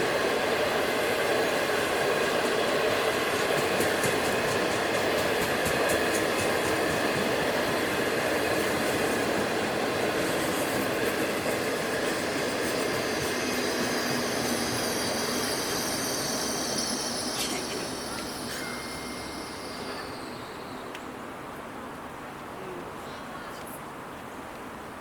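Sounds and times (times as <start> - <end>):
wheels squealing on rails: 0.0 - 21.6
passenger train rumbling past: 0.0 - 22.3.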